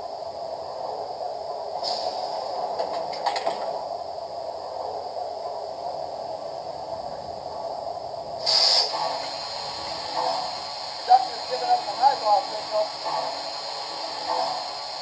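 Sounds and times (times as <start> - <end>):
model train engine hiss: 0.0 - 4.4, 5.1 - 15.0.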